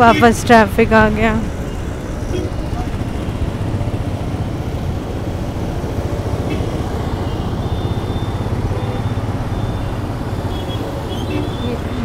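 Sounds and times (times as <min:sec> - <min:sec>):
motorcycle and traffic rumble: 0:00.0 - 0:12.0.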